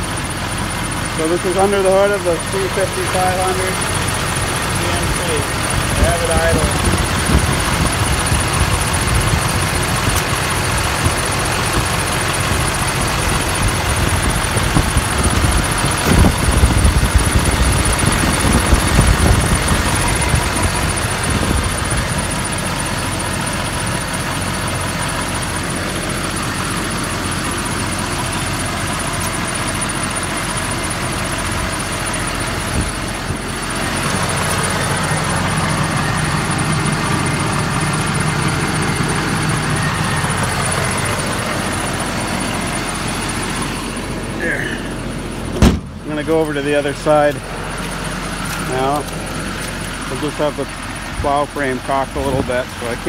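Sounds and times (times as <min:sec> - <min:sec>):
truck engine idling: 0:00.0 - 0:53.0
uneven low rumbling: 0:00.0 - 0:53.0.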